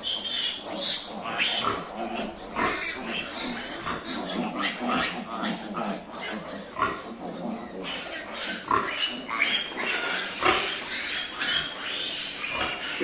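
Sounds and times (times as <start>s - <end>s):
pigs grunting and squealing: 0.0s - 13.0s.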